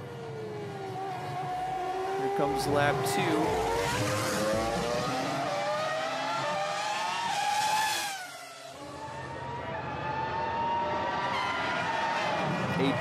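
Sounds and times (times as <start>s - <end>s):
race car engine revving: 0.6s - 13.0s.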